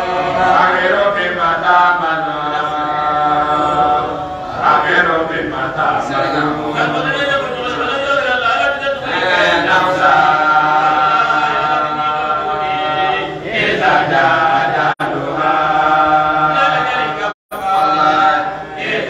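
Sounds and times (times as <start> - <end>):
men chanting through microphones: 0.0 - 19.0.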